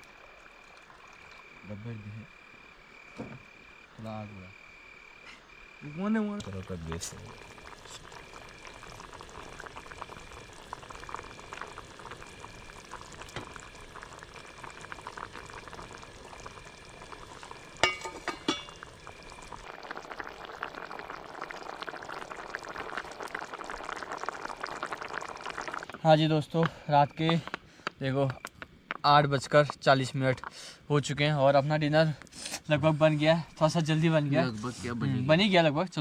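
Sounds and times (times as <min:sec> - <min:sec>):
curry bubbling and sizzling: 0:00.0 - 0:04.0, 0:06.1 - 0:34.8
cricket chirping: 0:00.0 - 0:36.0.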